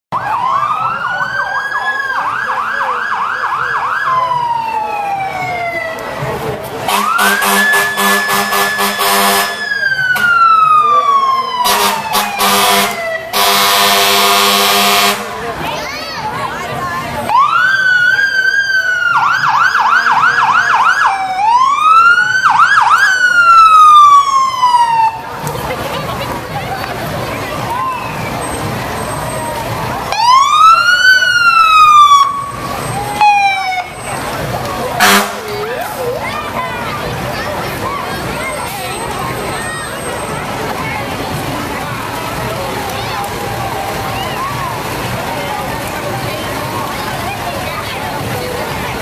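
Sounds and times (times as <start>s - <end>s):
emergency vehicle sirens: 0.1s - 49.0s.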